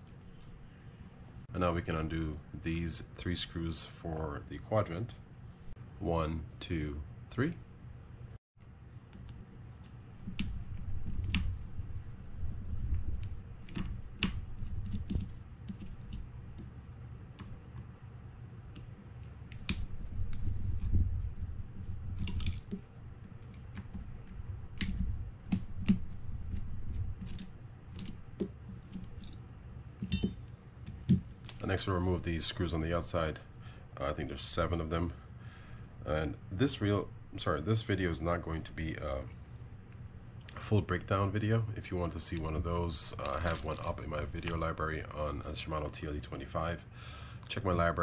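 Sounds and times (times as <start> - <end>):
low rumble of handling: 4.5 - 46.7.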